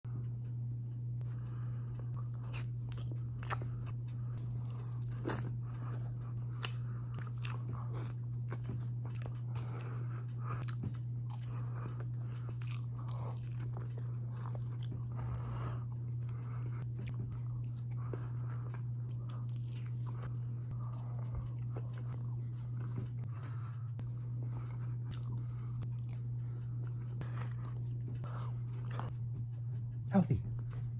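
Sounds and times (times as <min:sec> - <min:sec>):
steady low hum: 0:00.1 - 0:30.9
crunchy chewing: 0:01.3 - 0:29.2.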